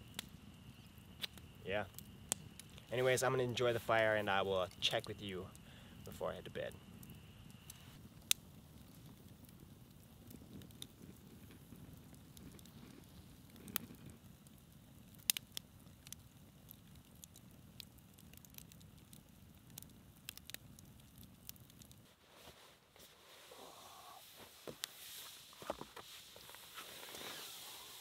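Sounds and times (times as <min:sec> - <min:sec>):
fire crackles and pops: 0:00.0 - 0:28.0
rush of flames: 0:00.0 - 0:28.0.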